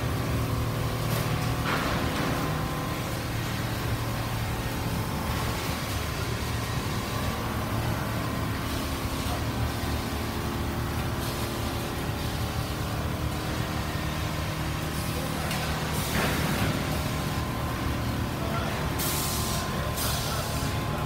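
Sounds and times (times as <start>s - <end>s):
quilting machines running: 0.0s - 21.0s.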